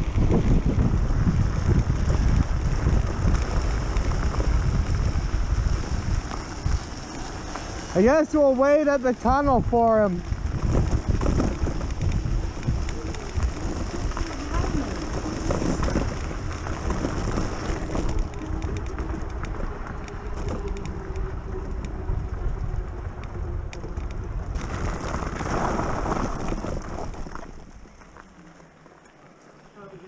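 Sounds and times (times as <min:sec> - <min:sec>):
wind buffeting camera: 0:00.0 - 0:28.2
bike tyres rumbling on gravel: 0:00.0 - 0:30.0.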